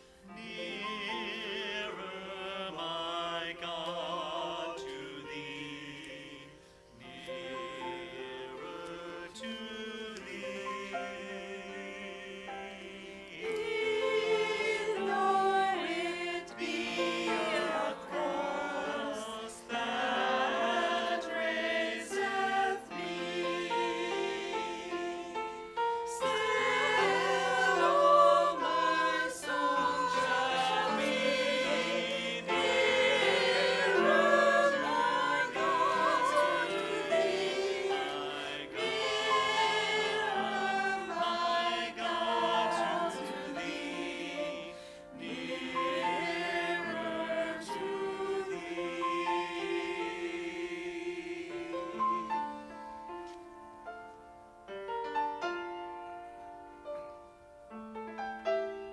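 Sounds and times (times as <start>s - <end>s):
congregation singing a hymn: 0.0s - 54.2s
sustained keyboard accompaniment: 4.9s - 58.9s.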